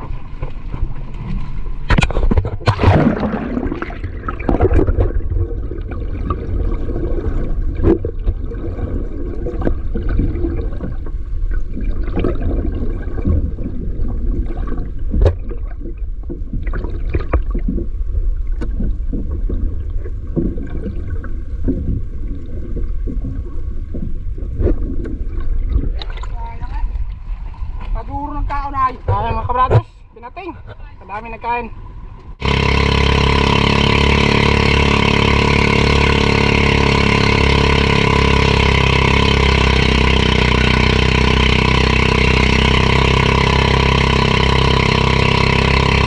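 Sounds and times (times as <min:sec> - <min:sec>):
water splashing around boat: 0:00.0 - 0:29.6, 0:32.2 - 0:46.0
low rumble: 0:00.0 - 0:46.0.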